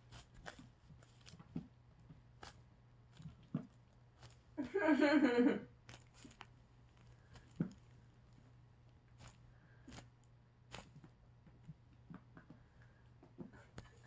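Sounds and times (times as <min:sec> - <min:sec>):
paws and claws on plastic lid: 0:00.0 - 0:04.6, 0:05.8 - 0:14.0
faint low hum: 0:00.0 - 0:14.0.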